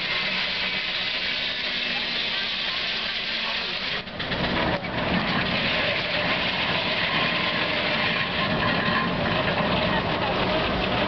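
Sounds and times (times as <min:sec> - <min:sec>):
circular saw cutting log: 0:00.0 - 0:11.0
saw carriage rattling: 0:00.0 - 0:11.0.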